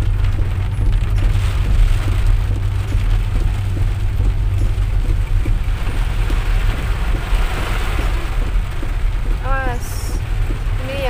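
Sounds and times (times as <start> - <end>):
car driving rumble: 0.0 - 11.0
rain on car roof: 0.0 - 11.0.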